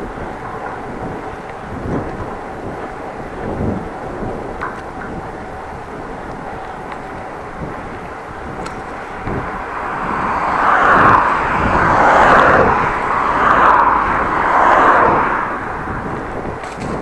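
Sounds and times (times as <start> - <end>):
vehicles passing close by: 0.0 - 17.0.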